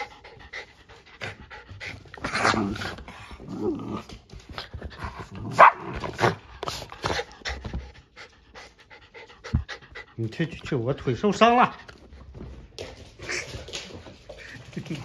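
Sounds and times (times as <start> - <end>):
dog panting: 0.0 - 3.5, 6.1 - 15.0.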